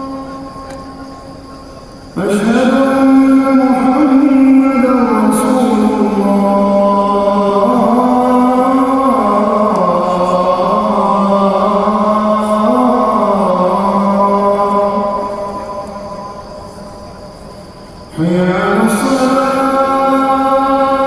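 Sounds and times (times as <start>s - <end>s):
man chanting call to prayer: 0.0s - 21.0s.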